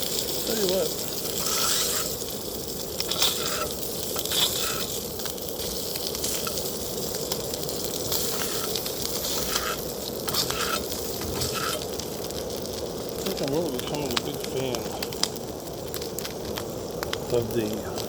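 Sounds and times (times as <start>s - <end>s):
food sizzling in a pan: 0.0s - 18.0s
pops and crackles: 0.0s - 18.0s.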